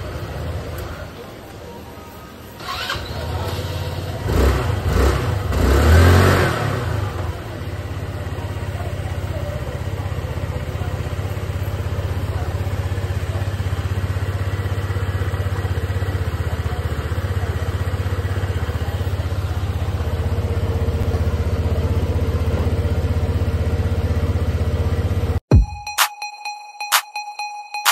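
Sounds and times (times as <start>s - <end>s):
motorcycle engine revving and idling: 0.0s - 1.7s, 2.4s - 25.5s.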